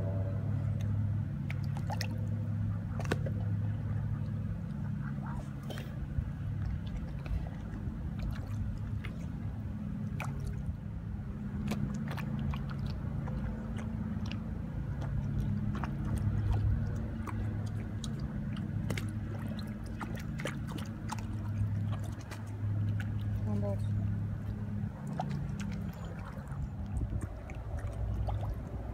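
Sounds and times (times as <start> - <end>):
steady low hum: 0.0 - 28.9
dog lapping and splashing water: 1.5 - 10.8, 11.4 - 28.9.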